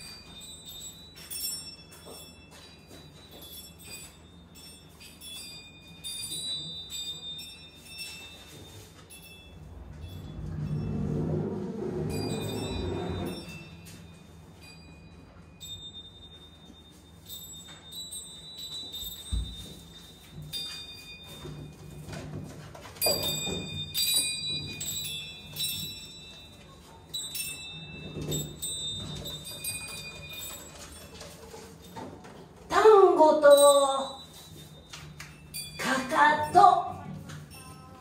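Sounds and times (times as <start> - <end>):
small metallic chimes ringing: 0.0 - 22.3, 22.9 - 38.0.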